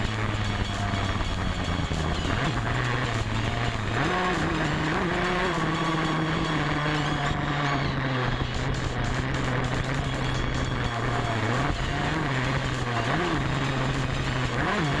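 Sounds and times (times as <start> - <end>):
dirt bike engine under throttle: 0.0 - 15.0.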